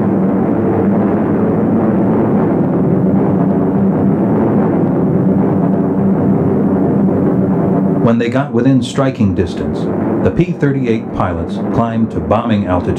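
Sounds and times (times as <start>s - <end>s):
piston aircraft engines droning: 0.0s - 12.9s.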